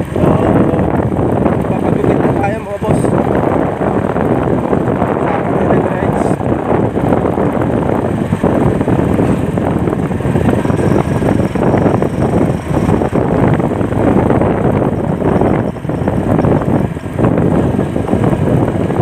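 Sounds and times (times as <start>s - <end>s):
road and engine rumble: 0.0s - 19.0s
wind buffeting microphone: 0.0s - 19.0s.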